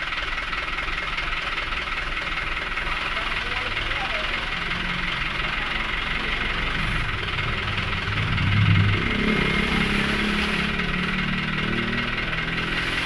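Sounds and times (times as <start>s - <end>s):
dump truck engine running: 0.0s - 13.0s.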